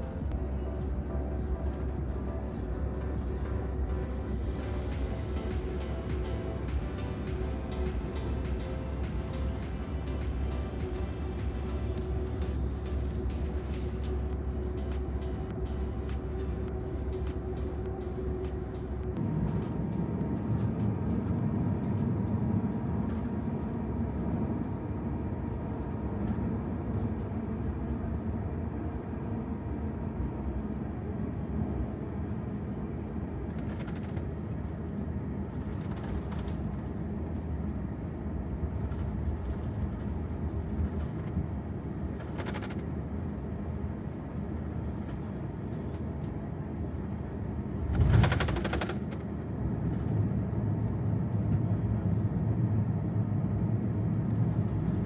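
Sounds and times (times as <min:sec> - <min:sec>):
engines and wheels rumbling: 0:00.0 - 0:55.0.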